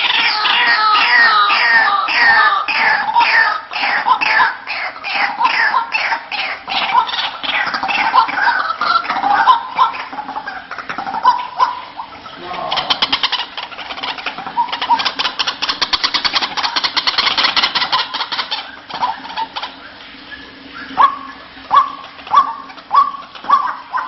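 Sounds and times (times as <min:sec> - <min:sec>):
bird calls with upward sweep: 0:00.0 - 0:24.0
bird chattering: 0:00.0 - 0:24.0.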